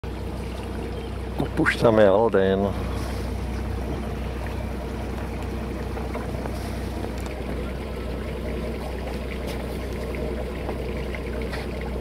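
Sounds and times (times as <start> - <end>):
boat engine droning: 0.0 - 12.0
water noise: 0.0 - 12.0
wind: 0.0 - 12.0.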